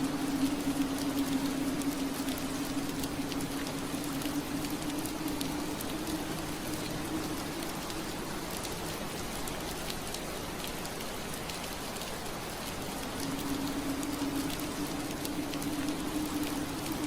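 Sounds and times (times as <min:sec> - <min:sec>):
low hum: 0:00.0 - 0:09.8, 0:13.0 - 0:17.0
rain on a window pane: 0:00.0 - 0:17.0.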